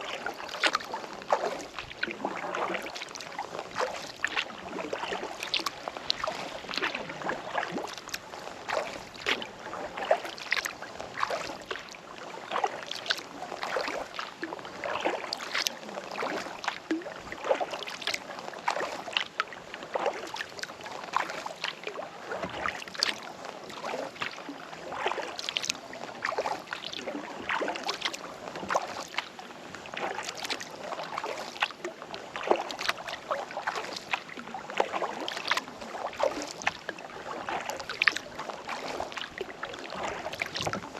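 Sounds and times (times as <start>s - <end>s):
kayak paddle strokes in water: 0.0s - 40.9s.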